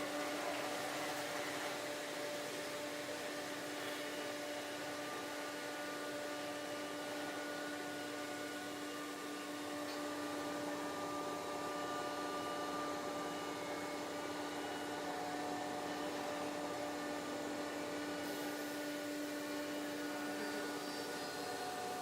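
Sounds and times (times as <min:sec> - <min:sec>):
router spindle whine: 0:00.0 - 0:22.0.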